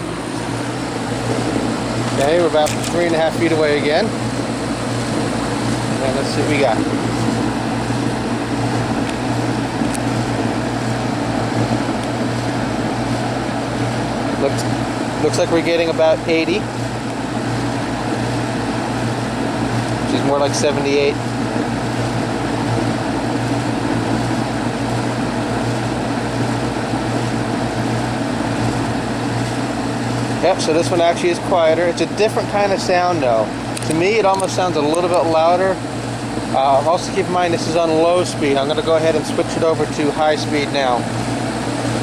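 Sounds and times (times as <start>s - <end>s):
heat pump fan rushing: 0.0s - 42.0s
steady low hum: 0.0s - 42.0s.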